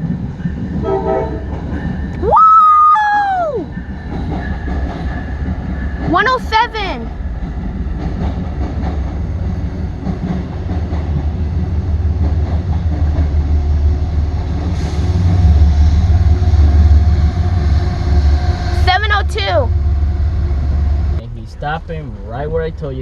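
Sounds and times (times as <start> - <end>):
passenger train rumbling: 0.0 - 23.0.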